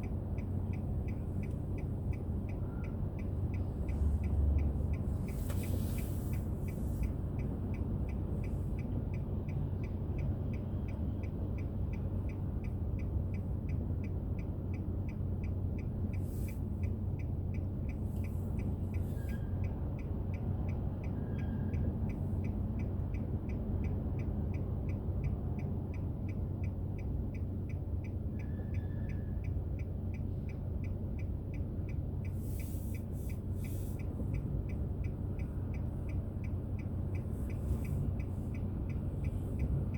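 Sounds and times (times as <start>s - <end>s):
car engine and road rumble: 0.0s - 39.9s
faint regular ticking: 0.0s - 39.9s.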